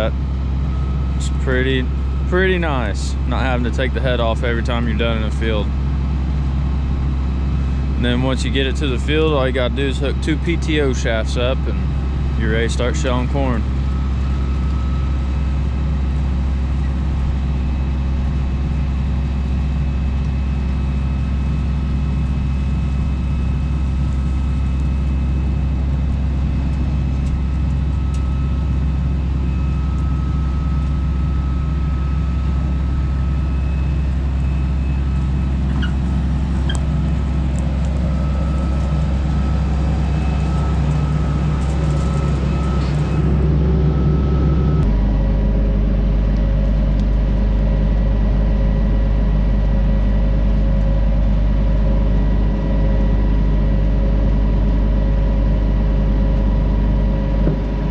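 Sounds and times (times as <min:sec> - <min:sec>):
faint high whine: 0:00.0 - 0:46.6
diesel engine humming: 0:00.0 - 0:57.9.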